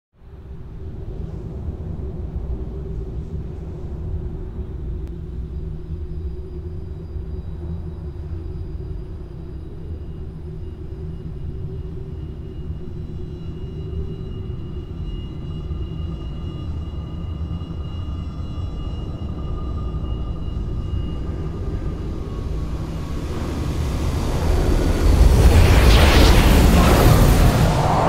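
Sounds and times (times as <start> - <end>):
faint high whining tones: 0.2 - 28.0
low rumbling ambience: 0.2 - 28.0.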